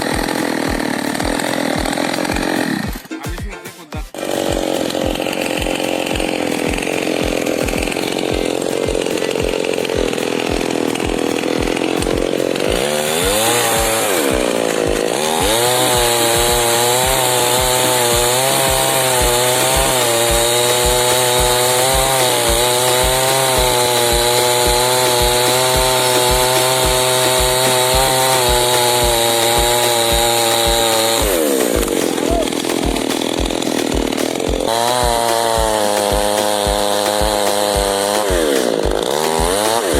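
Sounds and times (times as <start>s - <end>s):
chainsaw revving: 0.0s - 3.4s, 4.1s - 39.9s.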